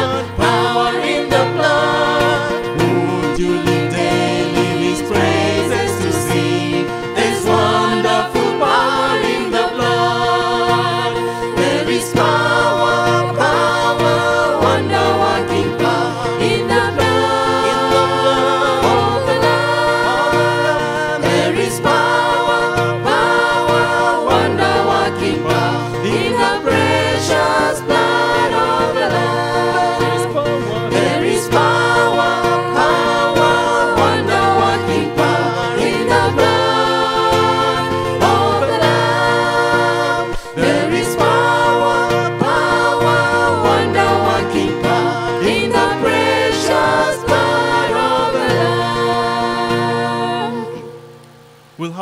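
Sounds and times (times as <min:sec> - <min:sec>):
group singing a hymn: 0:00.0 - 0:51.9
instrumental accompaniment: 0:00.0 - 0:52.0.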